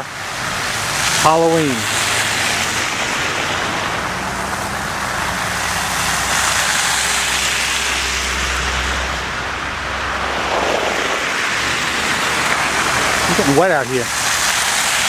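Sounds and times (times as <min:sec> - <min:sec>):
hiss of wet snow falling: 0:00.2 - 0:15.0
vehicle engine passing: 0:00.4 - 0:15.0.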